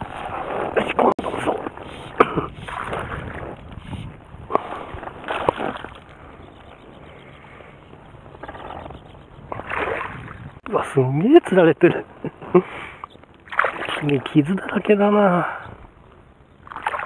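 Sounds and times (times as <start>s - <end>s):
water splashing and sloshing: 0.0s - 16.0s, 16.6s - 17.0s.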